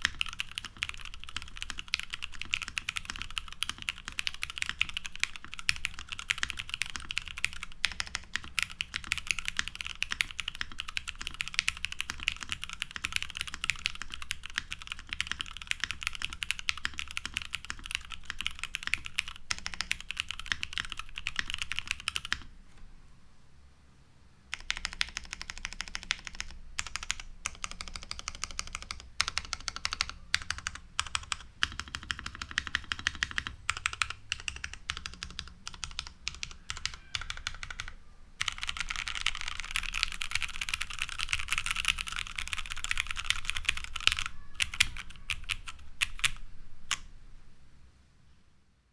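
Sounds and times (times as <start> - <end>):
mechanical keyboard typing: 0.0 - 22.5, 24.5 - 47.1.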